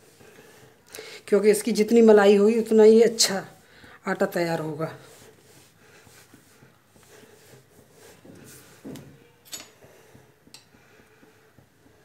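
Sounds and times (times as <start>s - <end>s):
dough kneaded on stone counter: 0.0s - 12.0s.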